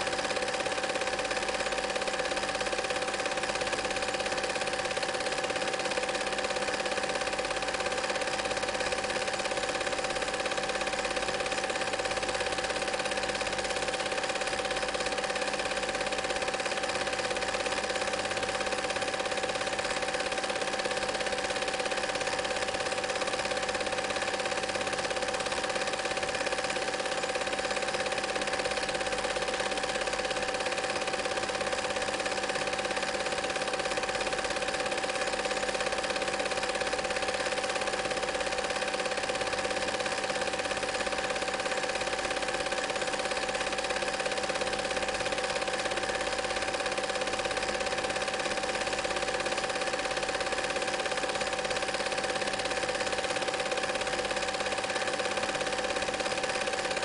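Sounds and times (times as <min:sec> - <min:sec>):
film projector clattering: 0:00.0 - 0:57.0.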